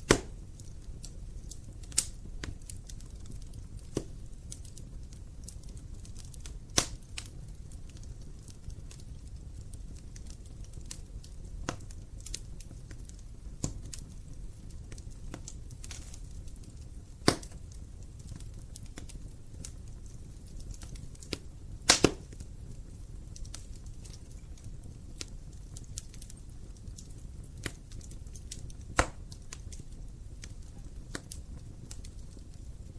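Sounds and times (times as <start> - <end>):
fire logs crackling: 0.0 - 32.9
low rush of flame: 0.0 - 32.9
sharp pops from fire: 0.0 - 32.9.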